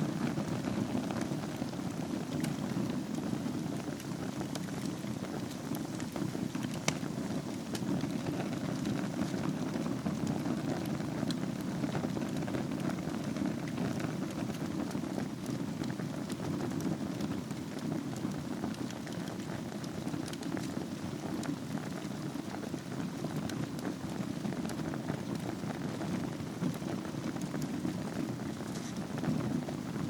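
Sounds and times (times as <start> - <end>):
wood fire crackling in fireplace: 0.0 - 30.0.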